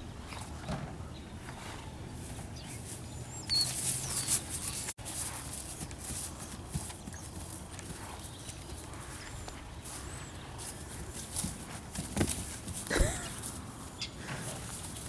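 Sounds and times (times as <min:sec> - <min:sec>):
hooves on grass: 0:00.0 - 0:15.0.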